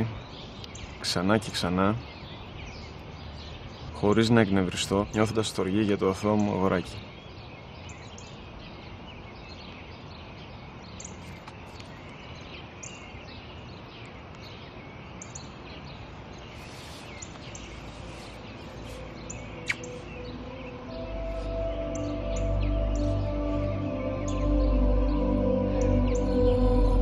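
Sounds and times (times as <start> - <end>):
outdoor background hiss: 0.0 - 27.0
small birds chirping: 0.0 - 27.0.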